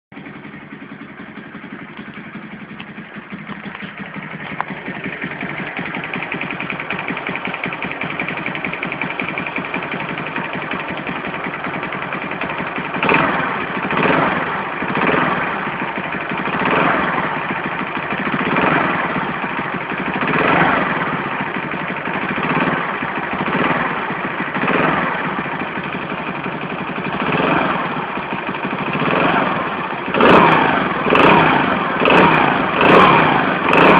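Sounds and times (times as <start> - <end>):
engine knocking: 0.1 - 33.9
moped engine idling and revving: 0.1 - 33.9.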